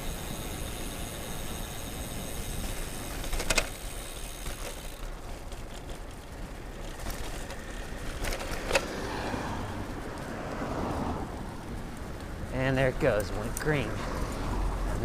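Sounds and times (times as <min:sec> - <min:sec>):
road hiss: 0:00.0 - 0:05.0, 0:06.7 - 0:15.0
wind rumbling on microphone: 0:00.0 - 0:15.0.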